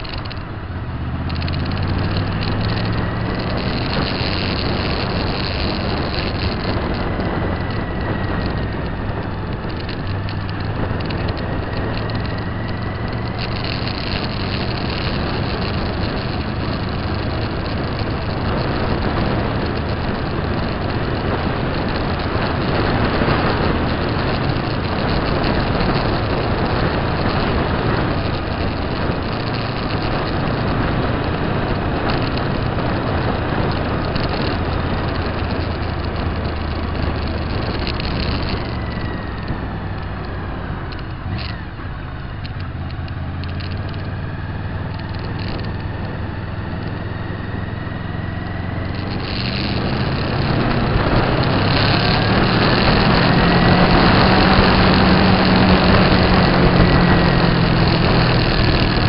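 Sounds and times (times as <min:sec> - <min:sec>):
road noise: 0:00.0 - 0:59.0
vehicle engine running: 0:00.0 - 0:59.0
wind noise: 0:00.0 - 0:59.0.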